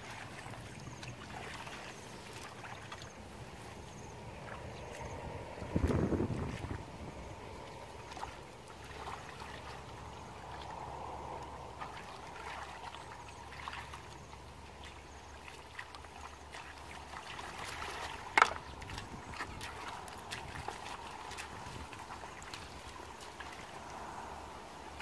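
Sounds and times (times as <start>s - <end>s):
muddy water sloshing: 0.0s - 25.0s
small splashes: 0.0s - 25.0s.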